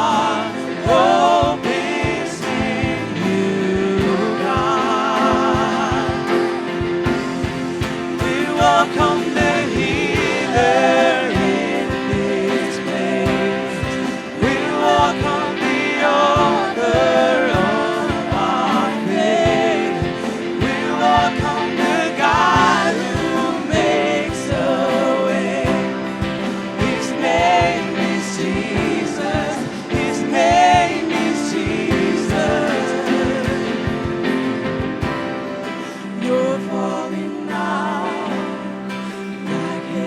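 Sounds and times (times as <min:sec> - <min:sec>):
worship singers with band: 0:00.0 - 0:40.0.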